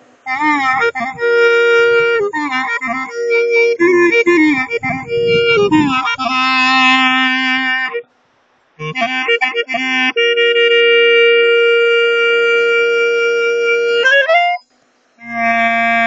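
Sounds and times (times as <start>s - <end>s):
solo clarinet: 0.3s - 8.1s, 8.8s - 16.0s.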